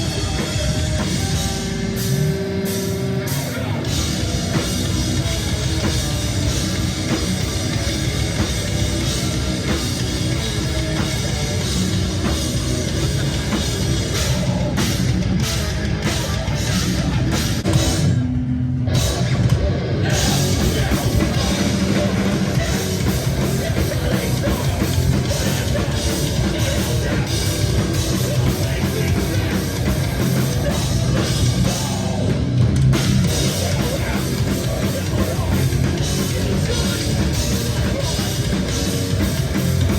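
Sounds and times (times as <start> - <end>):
heavy rock band playing live: 0.0 - 39.9.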